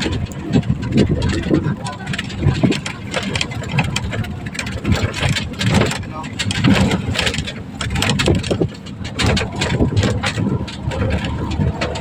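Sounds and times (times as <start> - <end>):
rattles and knocks: 0.0 - 12.0
vehicle rumble: 0.0 - 12.0
wind buffeting microphone: 0.0 - 12.0.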